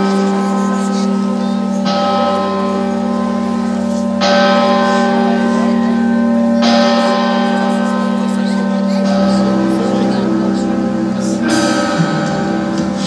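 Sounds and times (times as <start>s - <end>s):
church bell tolling: 0.0s - 13.0s.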